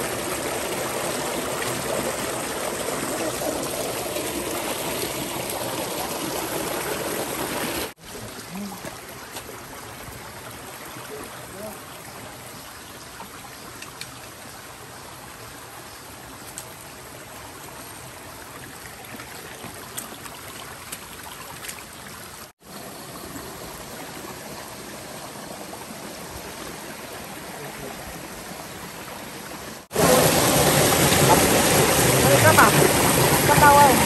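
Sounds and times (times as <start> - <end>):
stream trickling over rocks: 0.0 - 34.0.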